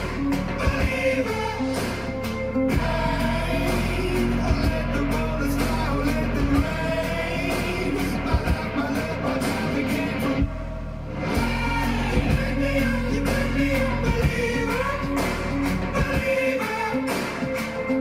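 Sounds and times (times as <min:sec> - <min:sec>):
heavy bass line from subwoofer: 0:00.0 - 0:18.0
rock song with singing: 0:00.0 - 0:18.0.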